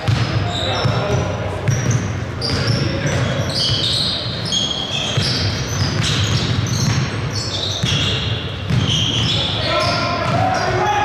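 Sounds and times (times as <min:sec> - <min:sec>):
basketball bouncing: 0:00.0 - 0:03.8, 0:05.1 - 0:10.6
sneakers squeaking on court: 0:00.0 - 0:10.9.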